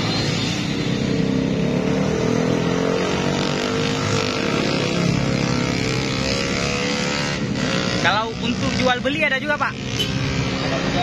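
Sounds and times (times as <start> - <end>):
scooters and motorcycles passing: 0.0 - 11.0.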